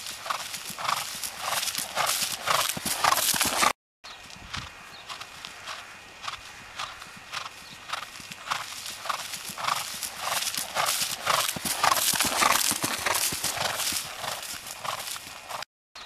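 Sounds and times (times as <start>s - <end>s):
horse hoofbeats on grass: 0.0s - 15.7s.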